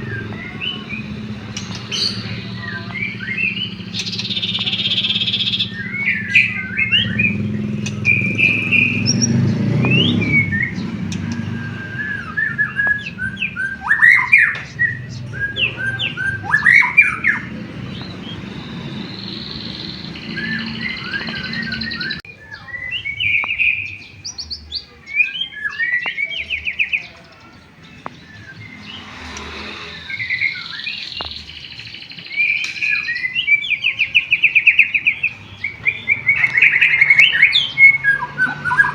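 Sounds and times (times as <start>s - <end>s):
songbird whistles and trills: 0.0s - 38.9s.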